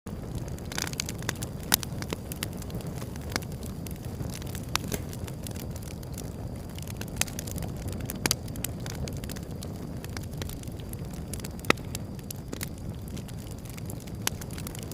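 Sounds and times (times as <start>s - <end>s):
wood fire crackling and popping: 0.1s - 14.9s.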